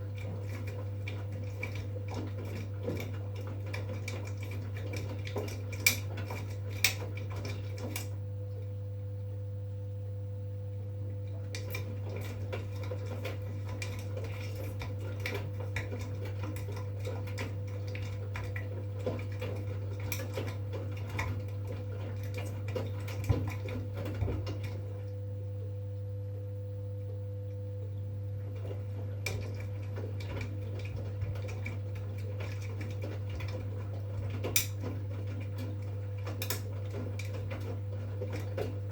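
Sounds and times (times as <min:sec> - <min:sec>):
washing machine hum: 0:00.0 - 0:38.9.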